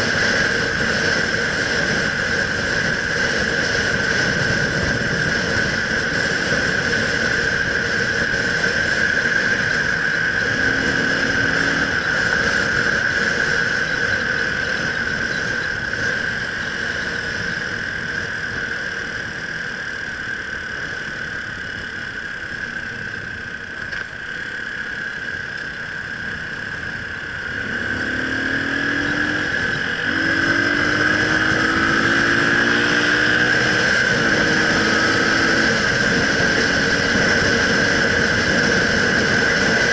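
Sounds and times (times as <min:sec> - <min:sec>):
motorcycle engine accelerating: 0:00.0 - 0:39.9
steady high whine: 0:00.0 - 0:39.9
wind noise: 0:00.0 - 0:39.9.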